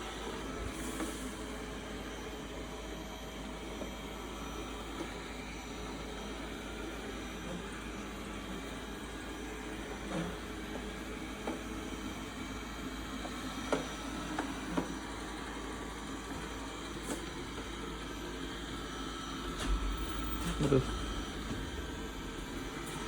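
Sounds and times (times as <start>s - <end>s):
robot vacuum whirring: 3.8s - 23.0s.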